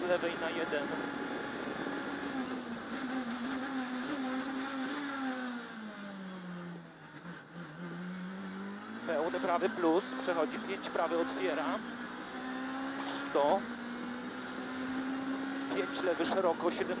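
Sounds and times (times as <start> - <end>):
rally car engine from inside: 0.0 - 17.0.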